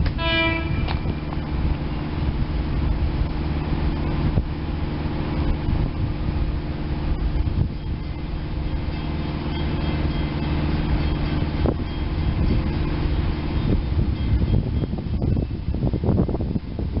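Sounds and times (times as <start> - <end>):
distant electric train rumble: 0.0 - 17.0.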